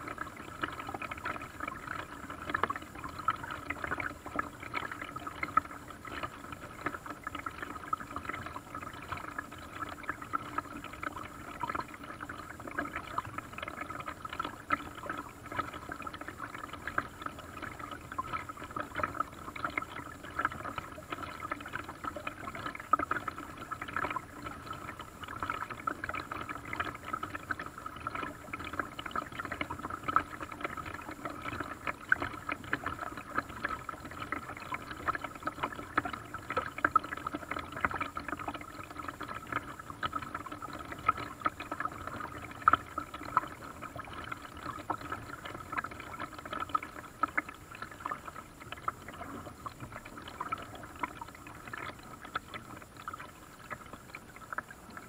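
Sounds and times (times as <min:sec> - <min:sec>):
water lapping against boat hull: 0:00.0 - 0:55.0.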